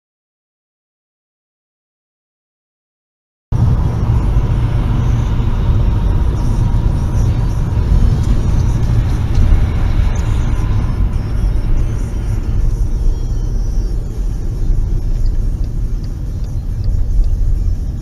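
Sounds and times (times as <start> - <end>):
car road and engine rumble: 3.5 - 18.0.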